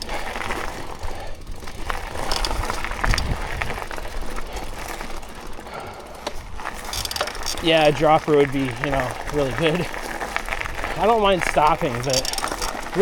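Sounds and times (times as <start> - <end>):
bike chain and frame rattling: 0.0 - 13.0
bike tyres on dirt: 0.0 - 13.0.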